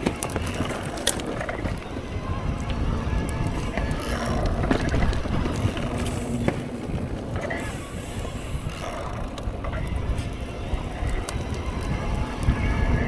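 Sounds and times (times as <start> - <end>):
bike clicks and rattles: 0.0 - 13.0
bike tyres rumbling on rocks: 0.0 - 13.0.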